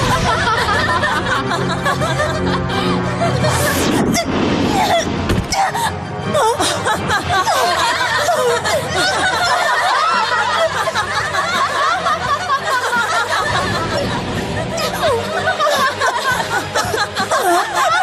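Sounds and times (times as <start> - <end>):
girls laughing and snickering: 0.0 - 6.0, 6.6 - 18.0
background music: 0.0 - 18.0.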